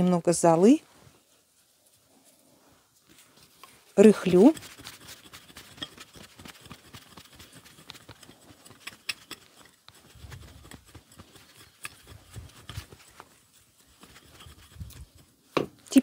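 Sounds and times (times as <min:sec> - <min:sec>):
soil scratching by hand: 0:03.2 - 0:16.0.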